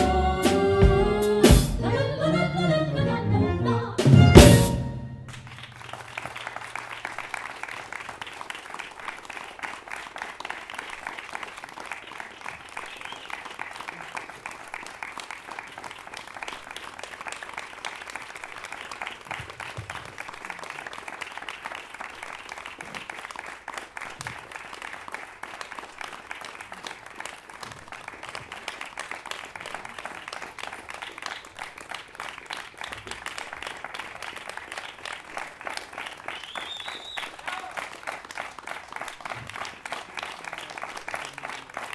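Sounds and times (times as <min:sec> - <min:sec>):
audience applauding: 0:05.2 - 0:41.9.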